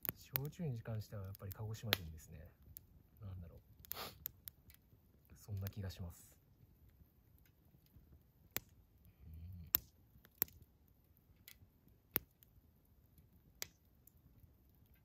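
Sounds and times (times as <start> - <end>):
campfire wood crackling: 0.0 - 15.0.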